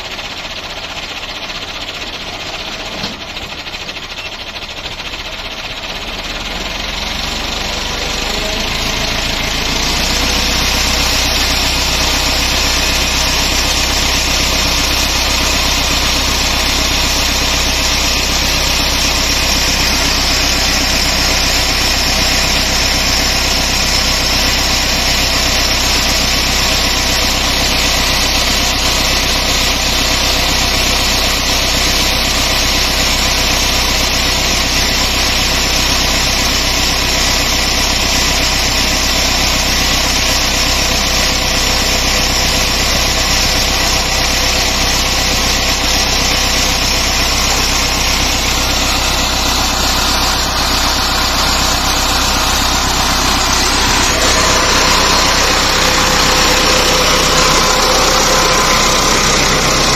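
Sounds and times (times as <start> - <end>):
diesel tractor engine running: 0.0 - 59.9
water pouring from pipe: 3.6 - 59.9.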